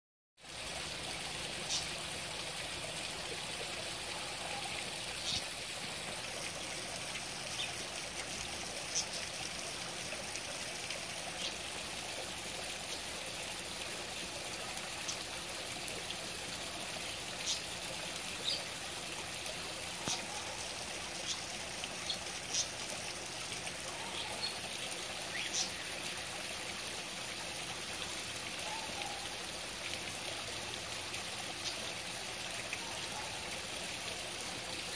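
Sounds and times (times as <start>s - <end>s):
water trickling over rocks: 0.4s - 34.9s.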